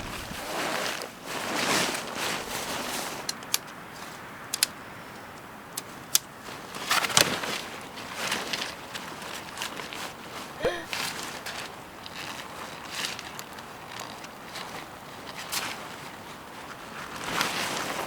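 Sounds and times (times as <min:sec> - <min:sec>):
tent fabric rustling: 0:00.0 - 0:03.3, 0:06.4 - 0:18.0.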